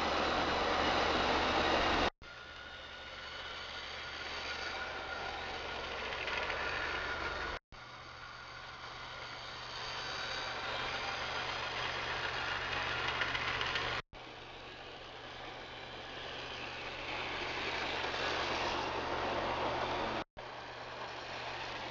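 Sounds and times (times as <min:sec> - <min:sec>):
wheels rattling on rails: 0:00.0 - 0:07.6, 0:08.5 - 0:21.9.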